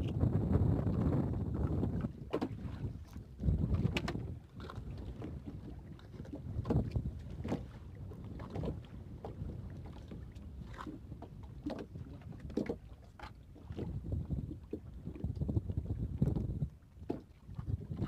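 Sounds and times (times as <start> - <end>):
water sounds: 0.0 - 18.0
wind buffeting microphone: 0.0 - 18.0.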